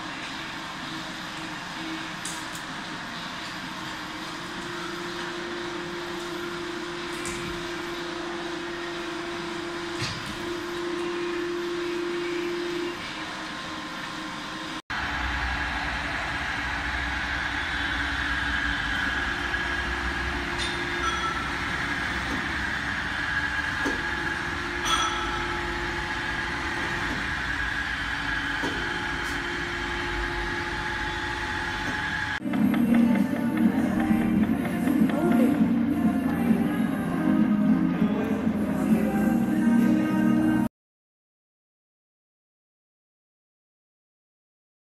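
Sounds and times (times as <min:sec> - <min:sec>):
electric motor hum with whine: 0:00.0 - 0:39.7
machine hum: 0:00.0 - 0:40.7.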